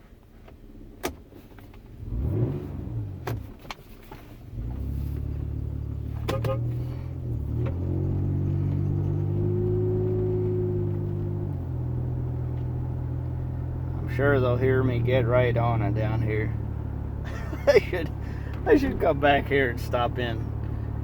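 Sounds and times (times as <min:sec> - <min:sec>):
truck exhaust revving and droning: 0:02.0 - 0:03.3, 0:04.5 - 0:21.0.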